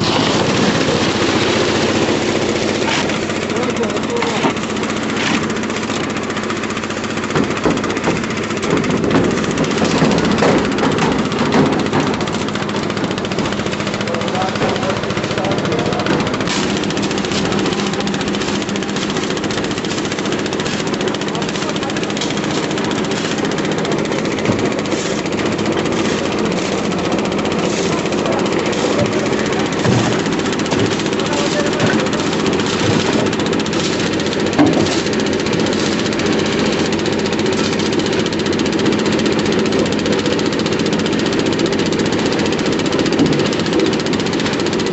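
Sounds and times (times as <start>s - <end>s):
construction machinery engine chattering: 0.0s - 44.9s.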